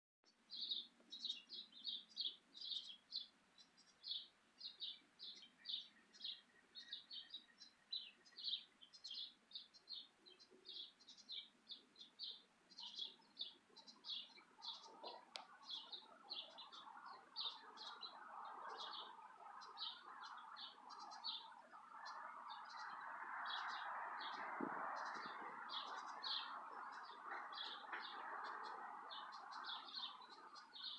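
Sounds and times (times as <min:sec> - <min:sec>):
small bird chirping: 0:00.3 - 0:24.4, 0:25.0 - 0:30.9
wind rustling leaves: 0:00.4 - 0:30.9.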